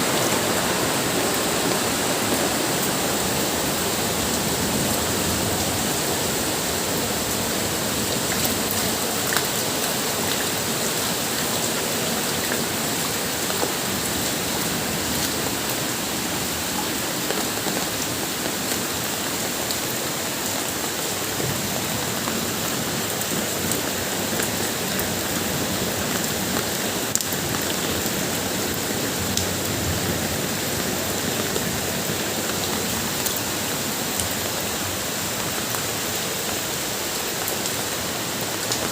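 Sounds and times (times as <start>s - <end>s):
heavy rain hissing: 0.0s - 38.9s
sharp ticks of raindrops: 0.1s - 38.9s.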